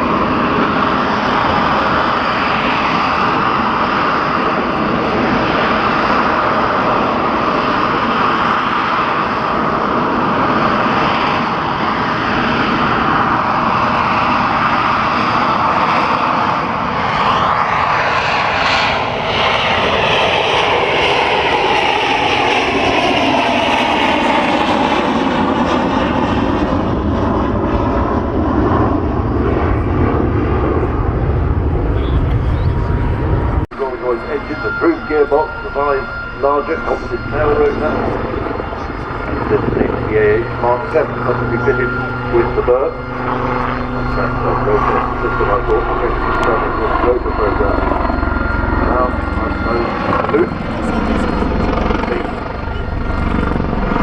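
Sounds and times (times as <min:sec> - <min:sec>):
aircraft engine flying past: 0:00.0 - 0:54.0.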